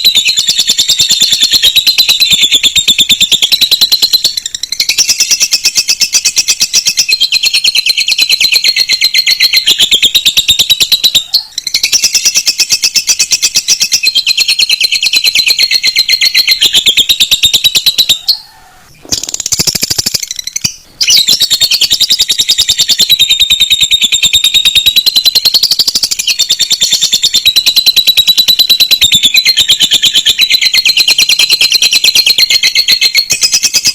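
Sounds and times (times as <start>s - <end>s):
birds chattering trills: 0.0s - 33.9s.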